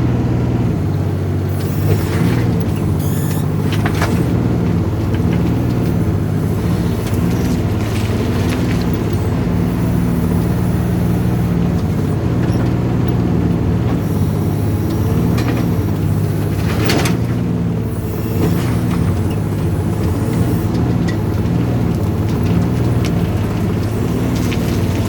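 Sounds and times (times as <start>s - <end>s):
excavator diesel engine running: 0.0s - 25.0s
scraping clatter: 1.5s - 13.2s, 13.9s - 25.0s.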